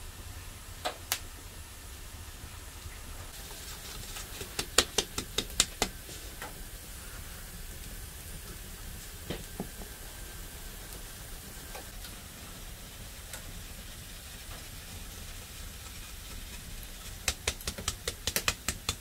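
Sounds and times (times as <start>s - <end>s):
flour hissing through mesh: 3.3s - 19.0s.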